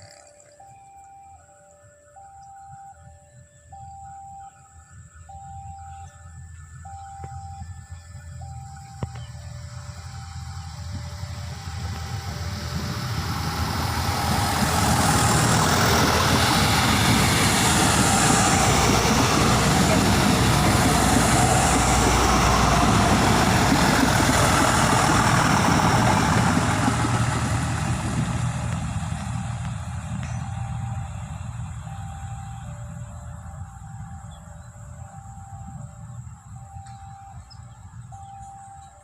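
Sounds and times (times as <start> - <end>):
diesel train engine drone: 0.0 - 39.0
wheels rushing on rails: 4.6 - 39.0.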